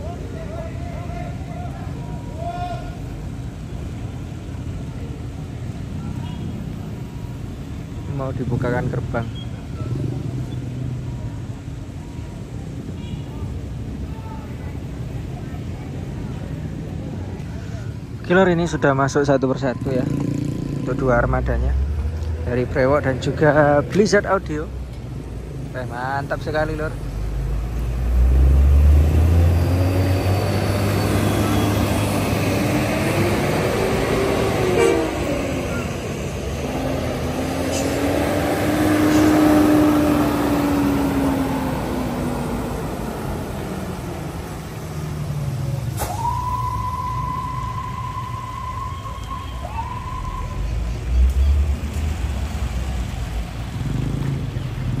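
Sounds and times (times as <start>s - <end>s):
heavy truck engines rumbling: 0.0s - 55.0s.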